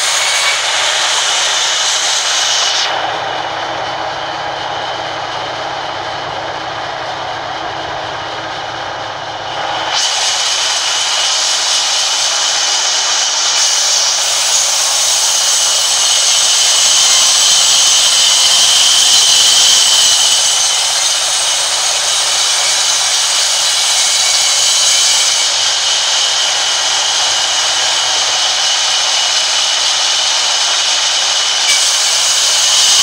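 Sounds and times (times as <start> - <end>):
band saw cutting log: 0.0 - 33.0.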